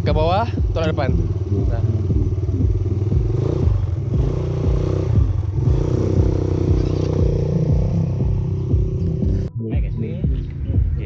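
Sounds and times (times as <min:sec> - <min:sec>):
atv engine running: 0:00.0 - 0:09.5.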